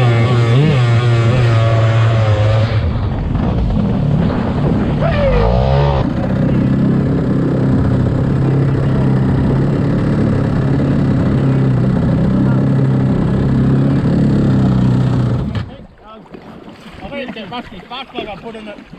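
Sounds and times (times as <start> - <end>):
jet boat engine running: 0.0 - 16.0.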